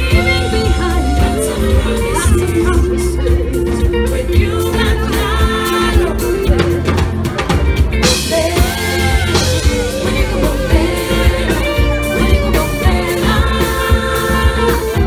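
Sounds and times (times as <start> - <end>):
live band playing dance music: 0.0 - 15.0
woman singing: 0.0 - 15.0.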